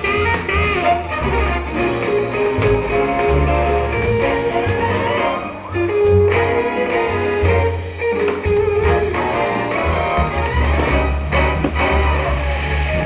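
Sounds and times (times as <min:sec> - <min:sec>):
bass line: 0:00.0 - 0:13.0
guitar music: 0:00.0 - 0:13.0.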